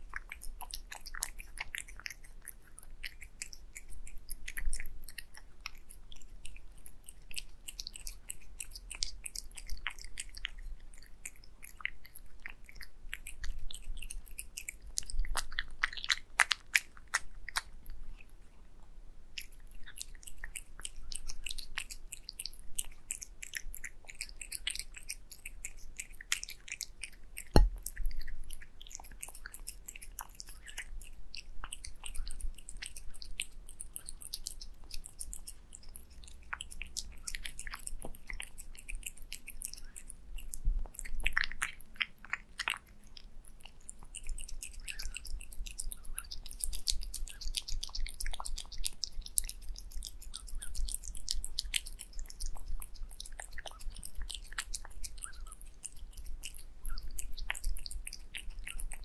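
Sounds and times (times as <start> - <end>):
cat licking and chewing food: 0.0 - 59.0.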